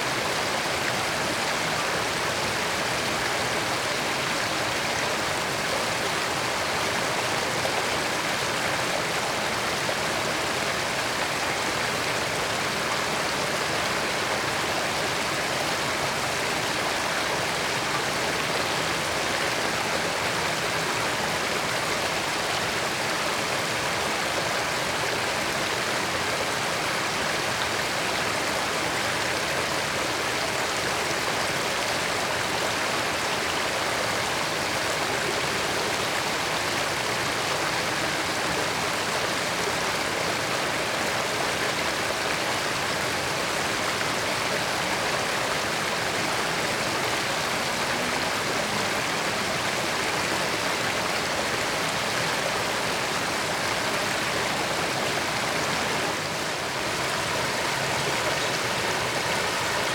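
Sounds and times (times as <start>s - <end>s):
water running over rocks: 0.0s - 59.9s.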